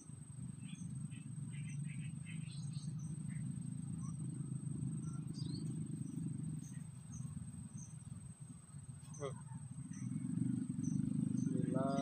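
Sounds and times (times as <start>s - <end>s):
bird chirps: 0.0s - 12.0s
high insect whine: 0.0s - 12.0s
steady low rumble: 0.0s - 12.0s.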